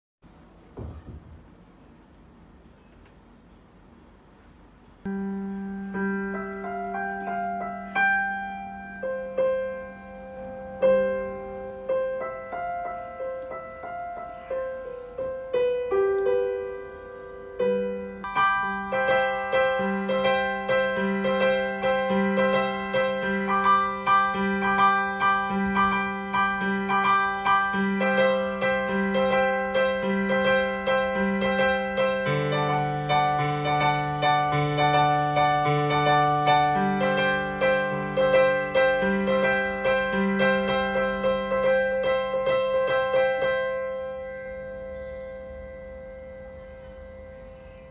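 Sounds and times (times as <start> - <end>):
digital piano playing: 5.0 - 47.9.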